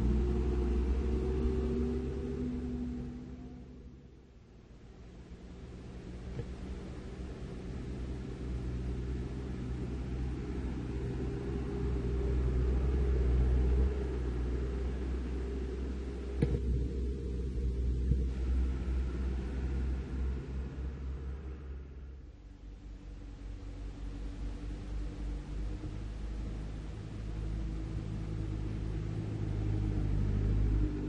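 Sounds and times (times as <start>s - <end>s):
heavy diesel trucks driving past: 0.0s - 31.0s.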